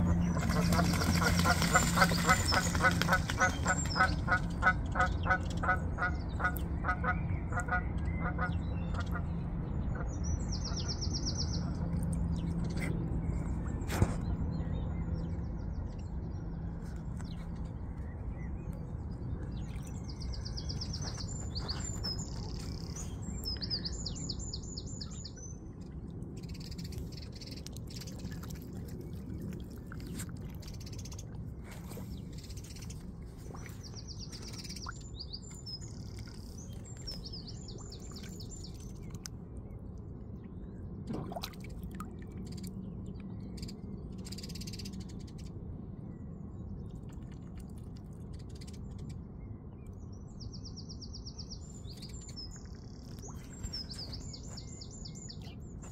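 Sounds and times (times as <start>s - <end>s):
low background rumble: 0.0s - 55.9s.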